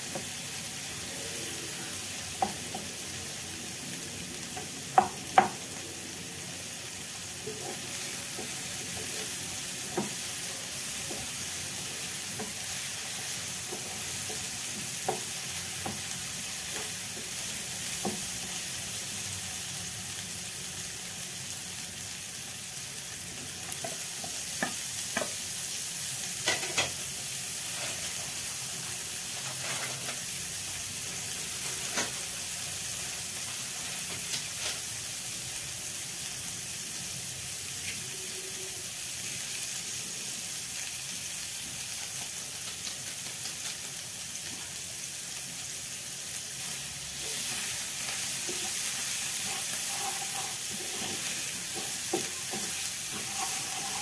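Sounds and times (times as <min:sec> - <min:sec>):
vegetables sizzling in a frying pan: 0:00.0 - 0:54.0.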